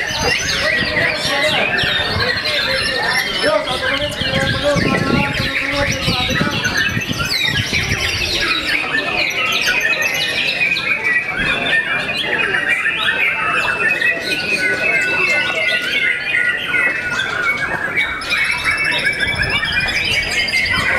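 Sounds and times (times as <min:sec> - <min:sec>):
caged birds singing: 0:00.0 - 0:20.9
murmur of people talking: 0:00.0 - 0:20.9.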